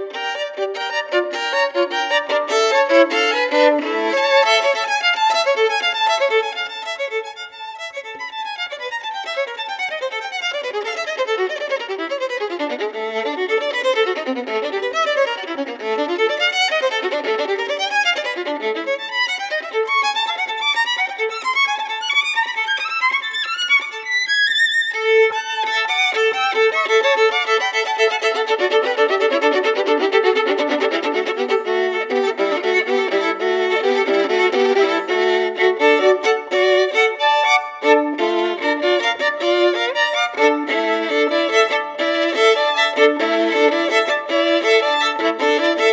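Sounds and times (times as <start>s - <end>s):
solo violin bowed: 0.0s - 45.9s.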